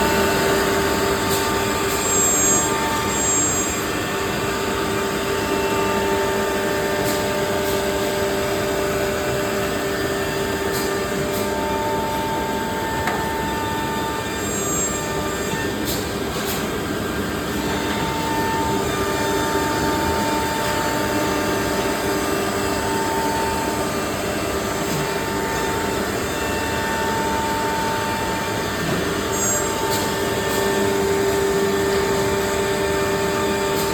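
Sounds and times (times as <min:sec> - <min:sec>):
cnc router running: 0:00.0 - 0:33.9.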